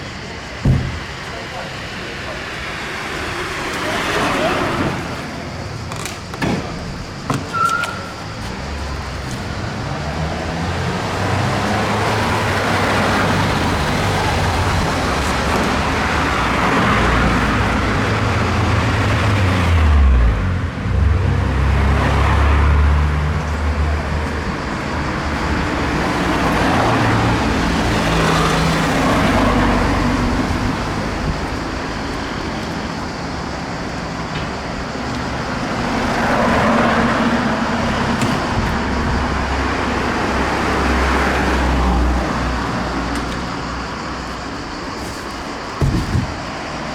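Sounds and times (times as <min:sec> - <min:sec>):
road noise: 0:00.0 - 0:46.9.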